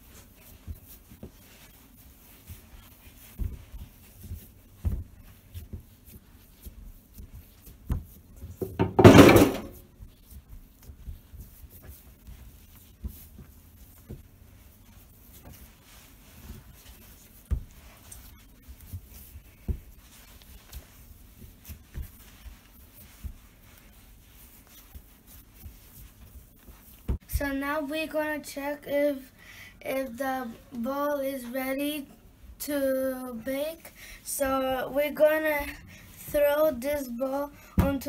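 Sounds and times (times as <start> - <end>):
hands kneading dough on a board: 0.0 - 38.0.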